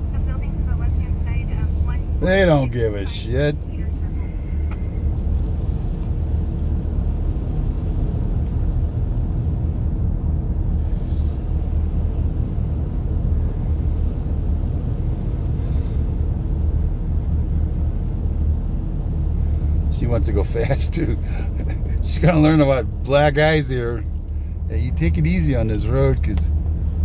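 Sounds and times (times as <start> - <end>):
car driving from inside: 0.0 - 27.0.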